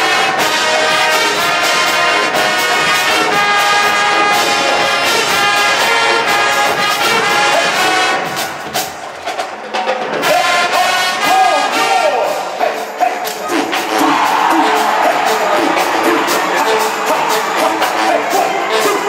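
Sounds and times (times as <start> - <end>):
brass section: 0.0 - 19.0
marching band playing: 0.0 - 19.0.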